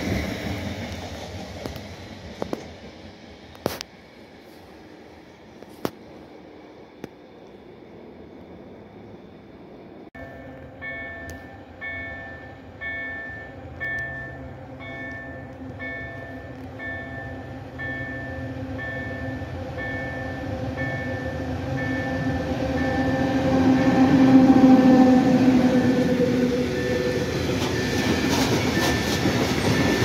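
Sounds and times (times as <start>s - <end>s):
freight train rumble: 0.0s - 30.0s.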